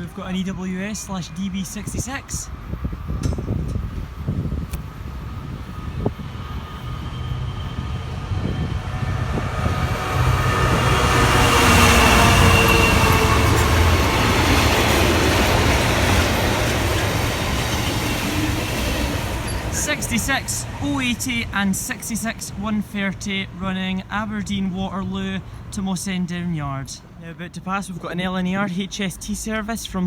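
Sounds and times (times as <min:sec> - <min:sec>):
diesel locomotive engines rumbling: 0:00.0 - 0:30.0
train wagons rolling past: 0:00.6 - 0:25.7.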